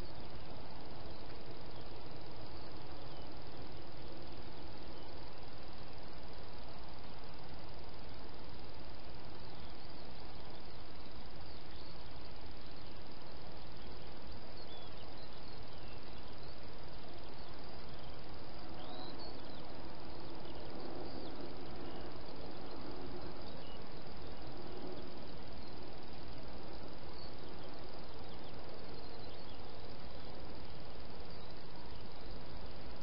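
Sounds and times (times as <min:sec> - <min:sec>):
faint high chirps: 0:00.0 - 0:33.0
steady hiss: 0:00.0 - 0:33.0.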